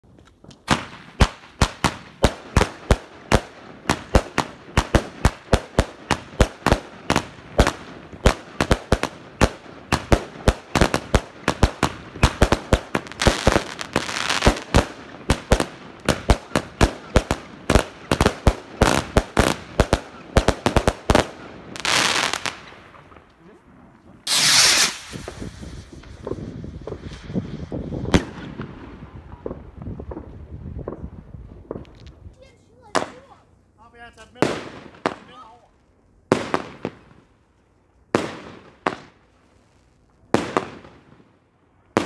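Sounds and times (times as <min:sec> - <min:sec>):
crackling hiss of fireworks: 0:00.0 - 0:42.0.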